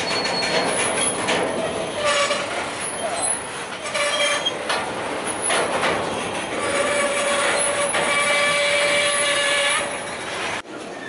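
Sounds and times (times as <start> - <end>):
train wheels rumbling: 0.0 - 11.0
train wheels squealing on rails: 0.0 - 11.0
wheels clacking over rail joints: 0.0 - 11.0.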